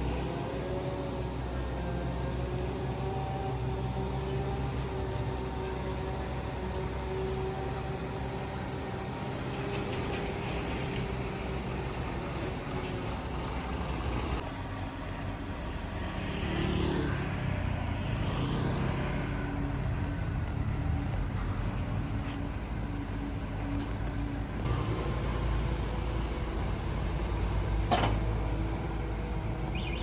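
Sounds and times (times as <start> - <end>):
heavy machinery diesel engine: 0.0 - 16.0, 17.6 - 30.0.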